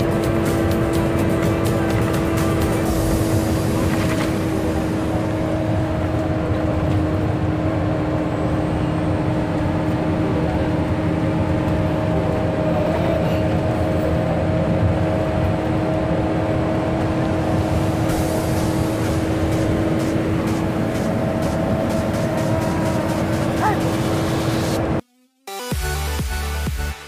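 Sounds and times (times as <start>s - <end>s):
vehicle engine droning hum: 0.0s - 25.0s.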